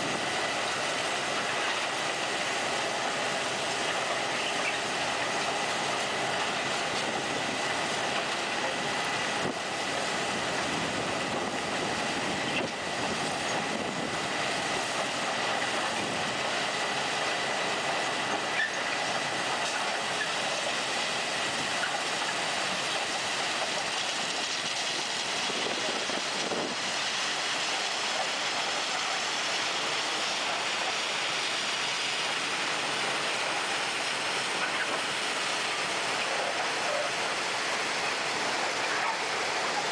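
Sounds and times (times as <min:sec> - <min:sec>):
rushing noise of track machinery: 0:00.0 - 0:39.9.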